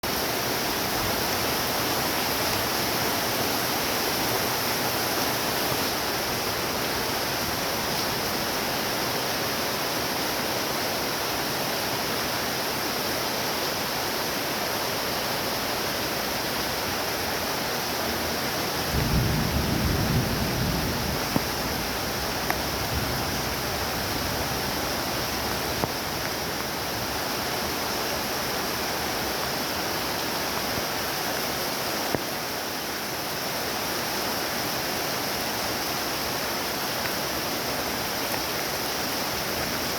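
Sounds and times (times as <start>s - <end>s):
heavy rain on trees: 0.0s - 39.9s.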